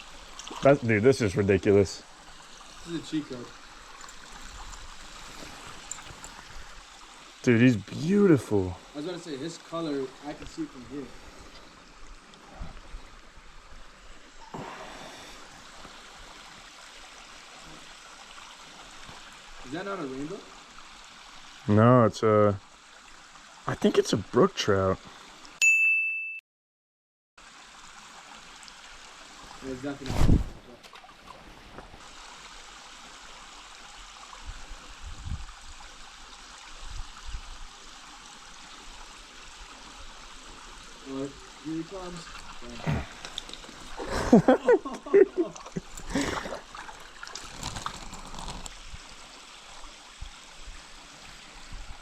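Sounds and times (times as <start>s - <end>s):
stream running over rocks: 0.0s - 25.6s, 27.4s - 52.0s.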